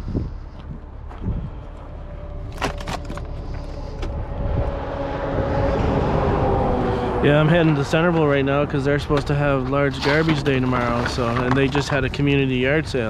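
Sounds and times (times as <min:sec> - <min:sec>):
road noise: 0:00.0 - 0:13.0
car engine pulling away: 0:01.5 - 0:13.0.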